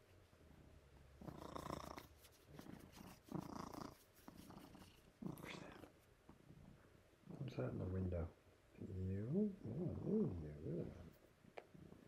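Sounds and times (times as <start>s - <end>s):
cat purring: 0.4s - 12.0s.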